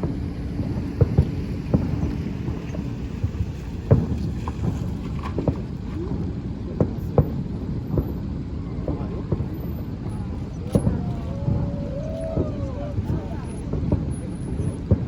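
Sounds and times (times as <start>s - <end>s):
distant fireworks bangs: 0.0s - 15.0s
steady low rumble: 0.0s - 15.0s.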